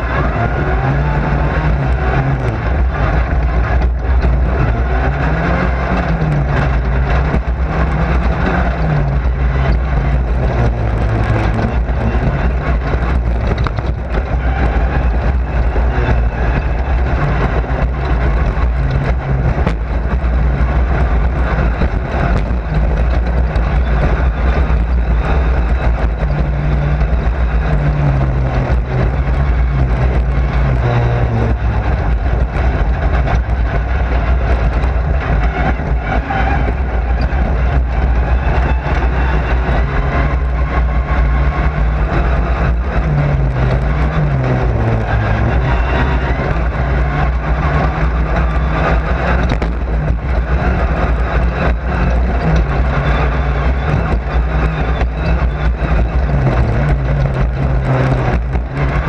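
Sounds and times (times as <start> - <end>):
race car engine: 0.0 - 59.0
rattling cabin noise: 0.0 - 59.0.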